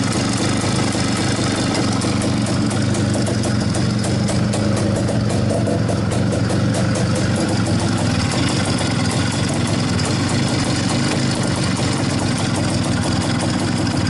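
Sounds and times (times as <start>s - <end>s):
two-stroke motorcycle engine running: 0.0s - 14.0s.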